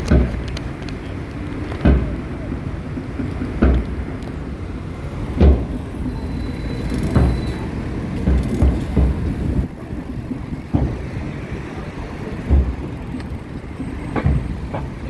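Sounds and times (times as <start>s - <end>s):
low thumps: 1.7s - 15.0s.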